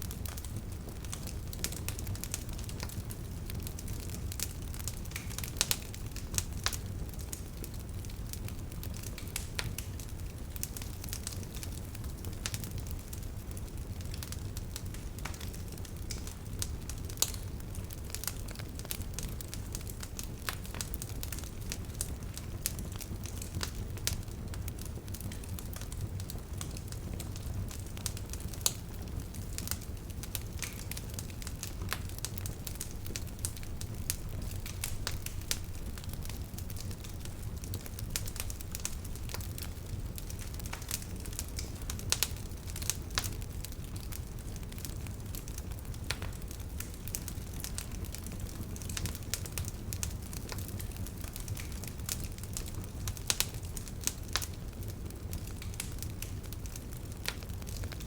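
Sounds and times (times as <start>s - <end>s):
bonfire crackling: 0.0s - 58.0s
low rumble of flames: 0.0s - 58.0s
sharp pops from fire: 0.1s - 58.0s.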